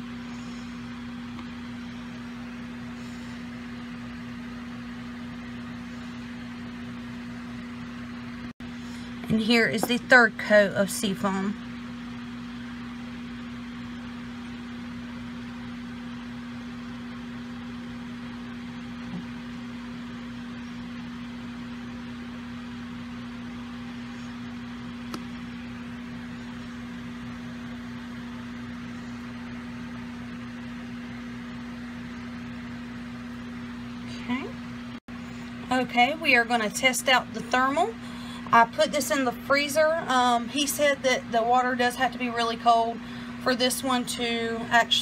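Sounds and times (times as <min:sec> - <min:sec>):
machine hum: 0:00.0 - 0:45.0.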